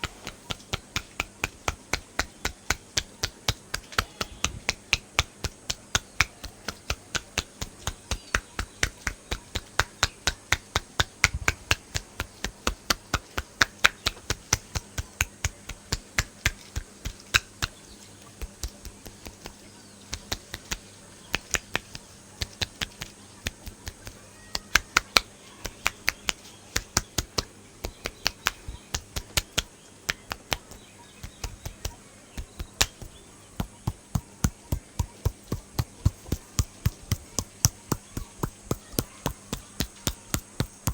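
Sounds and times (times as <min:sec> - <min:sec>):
hand slaps and taps on head: 0:00.0 - 0:40.9.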